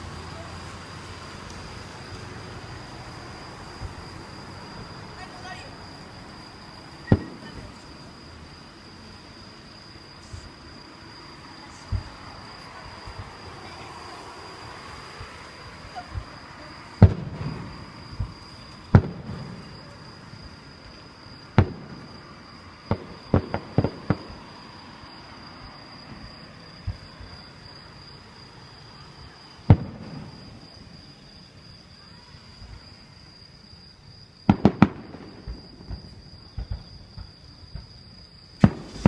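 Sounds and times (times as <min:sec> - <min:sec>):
fireworks exploding: 0:00.2 - 0:08.8, 0:10.2 - 0:32.9, 0:34.4 - 0:39.0.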